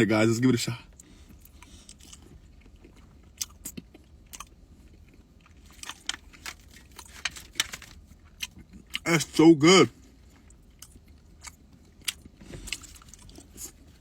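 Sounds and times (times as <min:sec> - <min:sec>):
person chewing food: 0:00.9 - 0:09.0, 0:10.1 - 0:14.0.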